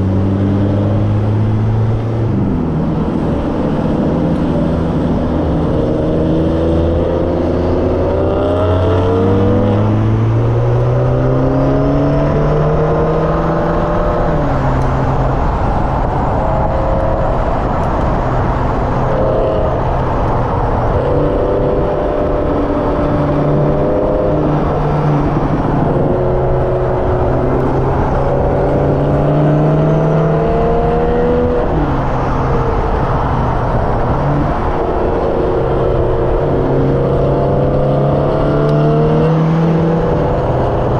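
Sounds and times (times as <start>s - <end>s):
car engine revving: 0.0s - 40.9s
road and tyre noise: 0.0s - 40.9s.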